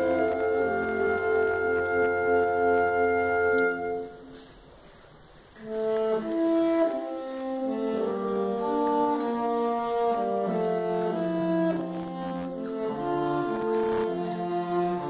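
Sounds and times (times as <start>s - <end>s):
saxophone quartet playing: 0.0s - 4.5s, 5.6s - 15.0s.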